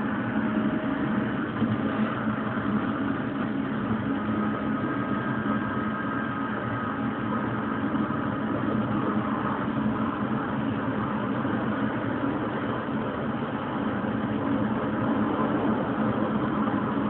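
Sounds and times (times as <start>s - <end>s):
electric train rumbling on rails: 0.0s - 17.0s
faint high whine: 0.0s - 17.0s
low hum: 0.0s - 17.0s.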